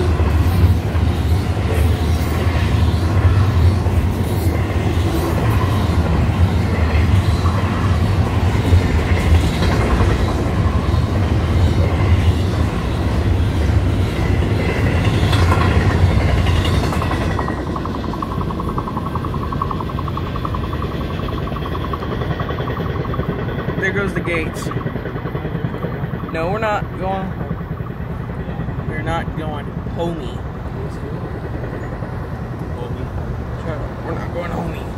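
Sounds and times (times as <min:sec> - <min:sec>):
train wheels rumbling and clattering: 0:00.0 - 0:34.9.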